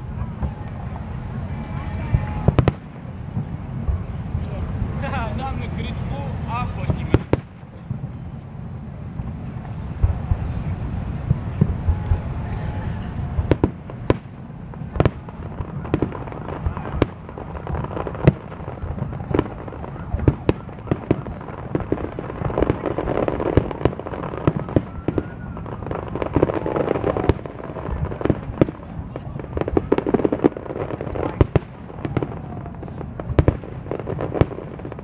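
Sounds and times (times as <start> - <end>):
rumble of continuous reports: 0.0 - 35.0.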